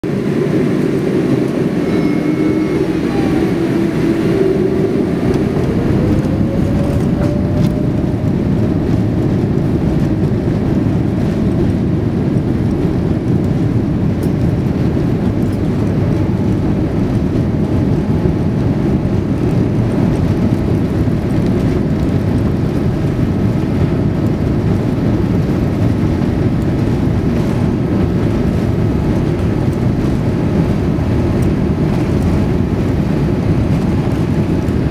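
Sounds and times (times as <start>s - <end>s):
jet engines roaring: 0.0s - 34.9s
rushing air: 0.0s - 34.9s.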